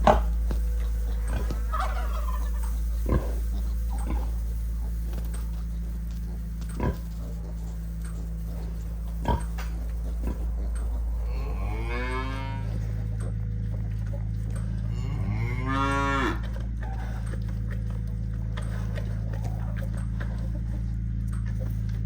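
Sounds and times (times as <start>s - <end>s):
animal calls: 0.0s - 21.2s
steady low hum: 0.0s - 22.0s.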